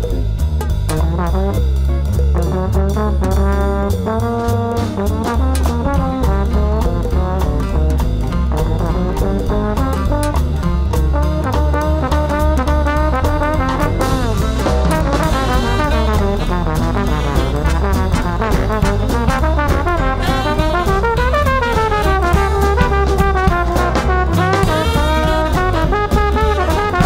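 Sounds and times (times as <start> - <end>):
drum kit with cymbals: 0.0 - 27.0
brass section playing: 0.9 - 27.0.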